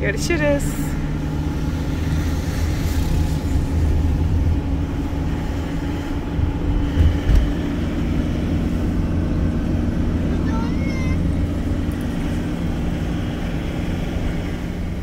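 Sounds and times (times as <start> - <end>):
low engine drone: 0.0 - 15.0
road noise: 0.0 - 15.0.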